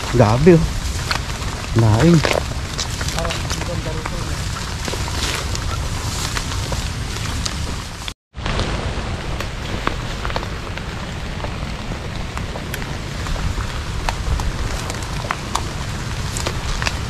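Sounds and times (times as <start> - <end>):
raindrops ticking on surfaces: 0.0 - 17.0
steady rain: 0.0 - 17.0.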